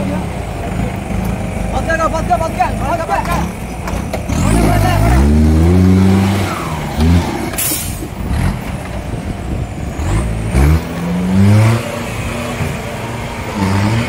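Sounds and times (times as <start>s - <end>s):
jeep engine revving: 0.0s - 14.0s.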